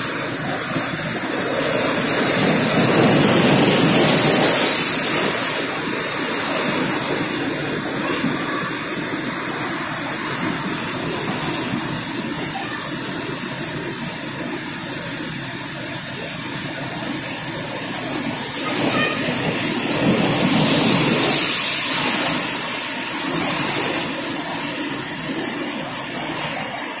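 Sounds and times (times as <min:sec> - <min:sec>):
surf breaking over rocks: 0:00.0 - 0:27.0.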